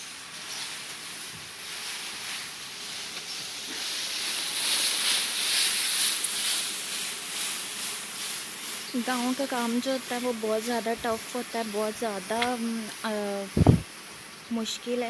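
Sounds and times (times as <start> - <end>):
leafy stalks rustling: 0.0 - 15.0.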